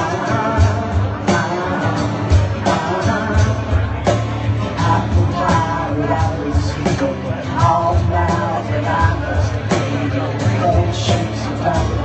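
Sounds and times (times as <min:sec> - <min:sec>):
drums keeping a beat: 0:00.0 - 0:12.0
live rock band playing: 0:00.0 - 0:12.0
person singing: 0:00.0 - 0:12.0.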